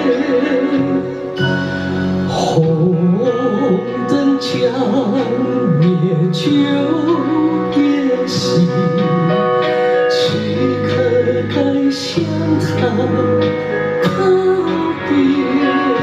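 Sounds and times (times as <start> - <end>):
instrumental backing: 0.0 - 16.0
man singing falsetto ballad: 0.0 - 16.0.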